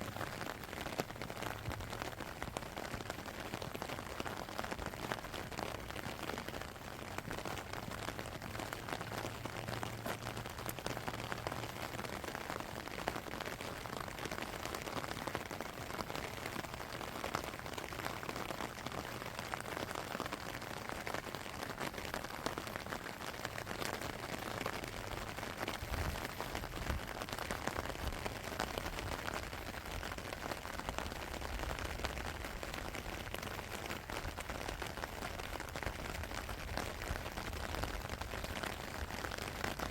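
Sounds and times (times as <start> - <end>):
raindrops ticking on surfaces: 0.0 - 39.9
steady rainfall: 0.0 - 39.9.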